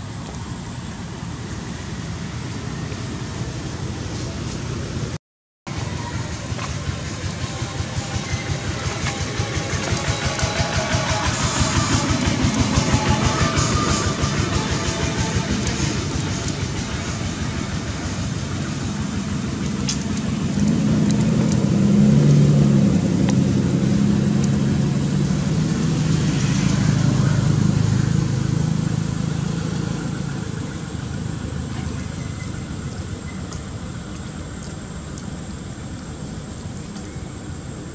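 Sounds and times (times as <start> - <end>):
passing engine hum: 0.0 - 37.9.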